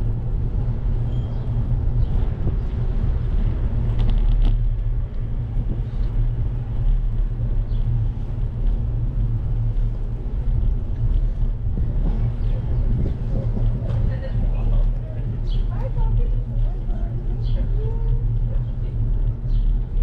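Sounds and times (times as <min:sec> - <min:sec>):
bicycle tyres rolling on pavement: 0:00.0 - 0:20.0
wind buffeting microphone: 0:00.0 - 0:20.0.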